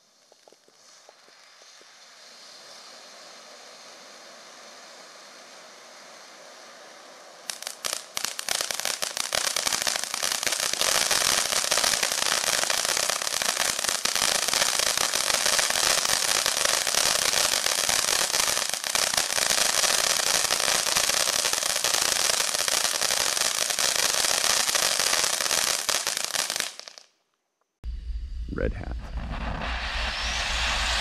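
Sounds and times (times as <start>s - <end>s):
firework fountains crackling: 0.0s - 27.1s.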